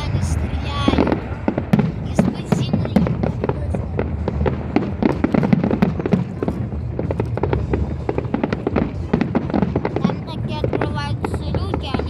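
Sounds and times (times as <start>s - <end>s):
continuous low rumble: 0.0s - 12.0s
fireworks bangs and crackles: 0.0s - 12.0s.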